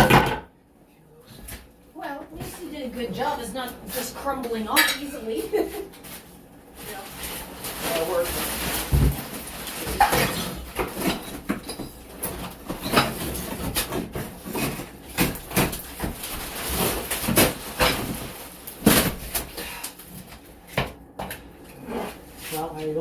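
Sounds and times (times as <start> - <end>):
demolition knocking and scraping: 1.5 - 5.6, 6.7 - 22.1.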